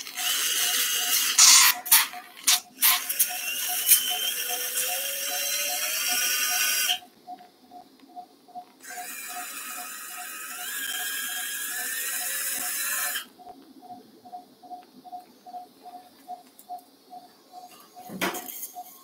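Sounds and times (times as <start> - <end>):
patient monitor beeping: 0.0 - 19.0.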